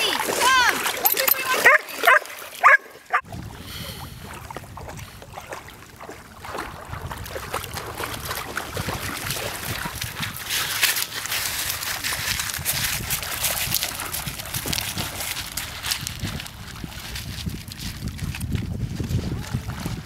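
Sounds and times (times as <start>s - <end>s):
water splashing and sloshing: 0.0s - 20.0s
wind buffeting the microphone: 3.2s - 20.0s.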